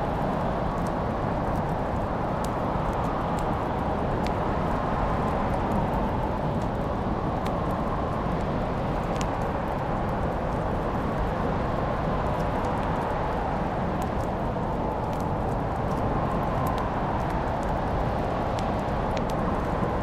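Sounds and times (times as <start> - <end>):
fire crackles and pops: 0.0 - 20.0
fire rushing: 0.0 - 20.0.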